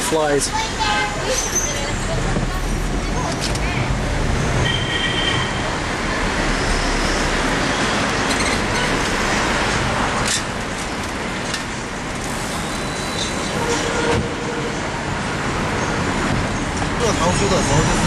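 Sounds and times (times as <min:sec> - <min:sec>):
traffic and road noise: 0:00.0 - 0:18.0.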